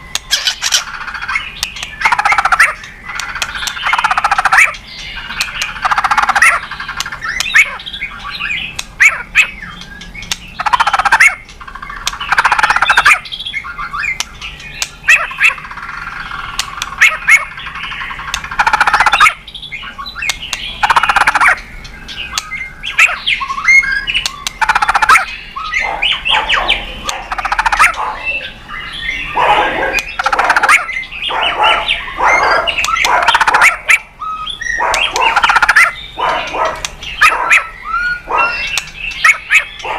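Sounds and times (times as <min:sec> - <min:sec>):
songbird singing whistled phrases: 0:00.0 - 0:15.6, 0:16.4 - 0:39.9.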